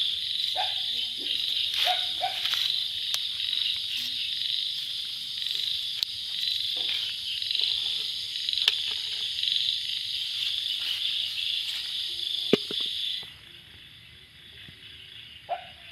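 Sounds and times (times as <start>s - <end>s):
night insects trilling: 0.0s - 15.9s.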